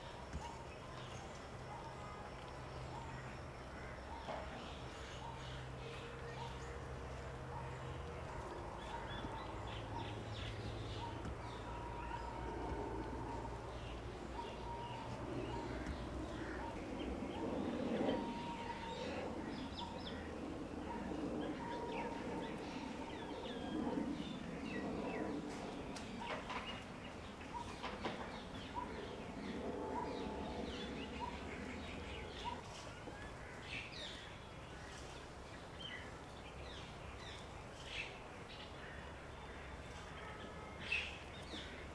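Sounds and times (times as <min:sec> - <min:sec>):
birds chirping: 0:00.0 - 0:41.9
low steady background noise: 0:00.0 - 0:41.9.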